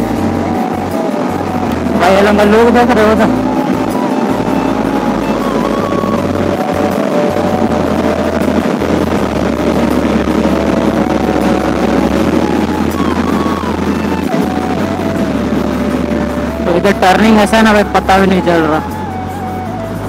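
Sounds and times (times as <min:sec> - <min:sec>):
motorcycle engine: 0:00.0 - 0:20.0
synth background music: 0:00.0 - 0:20.0
wind rush: 0:00.0 - 0:20.0.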